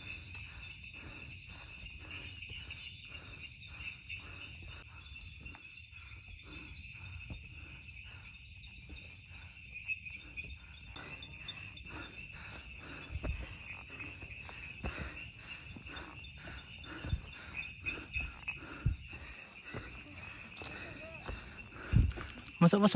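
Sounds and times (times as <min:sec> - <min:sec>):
crickets chirping: 0:00.0 - 0:22.9
footsteps on dirt trail: 0:00.0 - 0:22.9.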